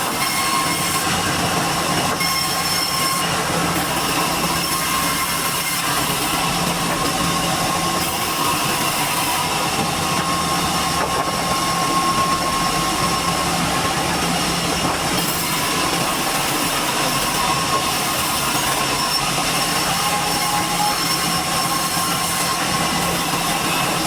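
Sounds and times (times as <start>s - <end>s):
sawmill saw running: 0.0s - 24.0s.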